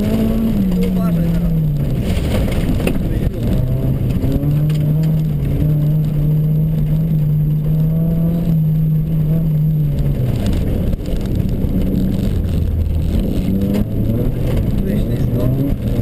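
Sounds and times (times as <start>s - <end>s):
car engine revving in cabin: 0.0s - 16.0s.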